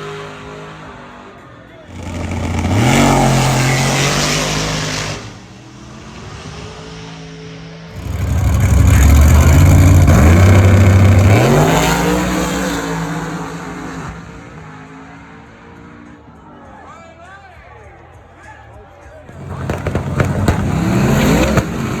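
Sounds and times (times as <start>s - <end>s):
car engines accelerating hard: 0.0s - 16.6s, 19.3s - 22.0s.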